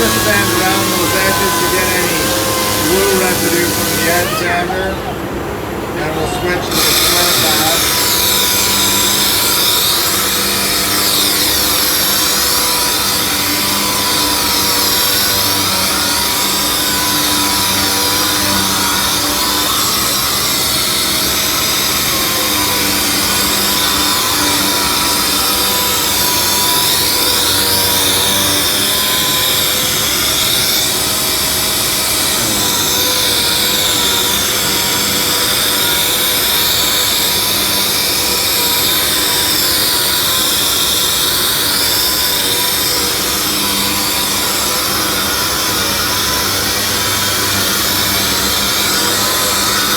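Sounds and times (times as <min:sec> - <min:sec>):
sander running: 0:00.0 - 0:49.9.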